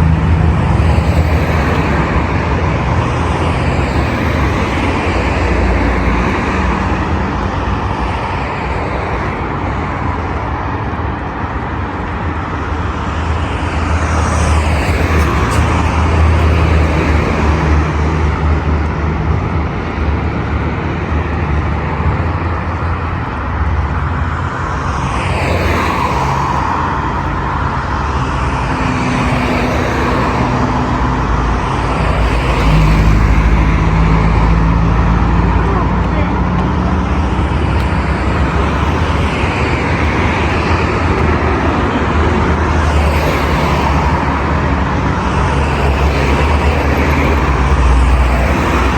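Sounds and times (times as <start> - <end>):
traffic rumble: 0.0 - 48.9
vehicles passing close by: 0.0 - 48.9.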